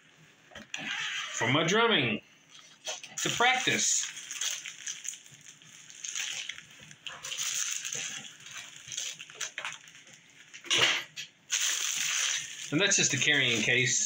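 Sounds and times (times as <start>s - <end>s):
plastic wrap crinkling: 2.5s - 14.0s.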